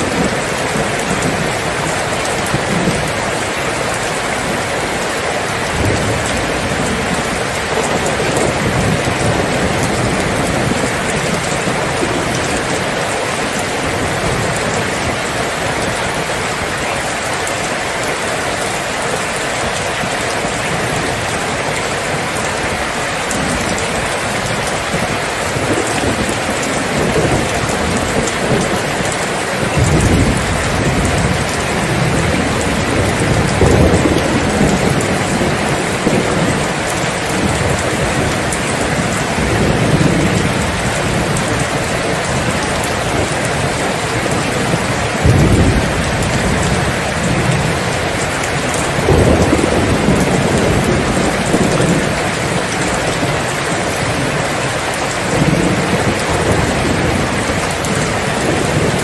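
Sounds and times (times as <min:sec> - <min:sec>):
rolling thunder: 0:00.0 - 0:17.8, 0:19.3 - 0:59.0
steady rain: 0:00.0 - 0:59.0.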